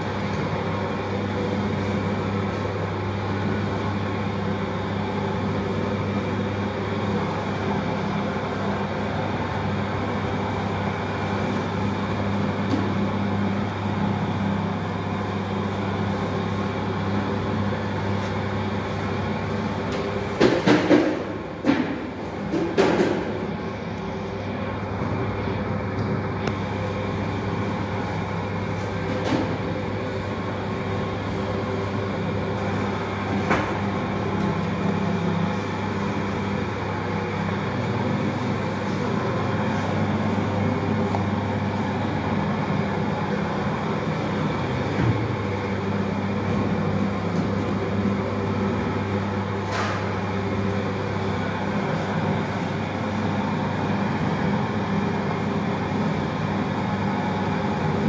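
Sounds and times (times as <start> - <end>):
bakery machinery humming: 0.0 - 58.0.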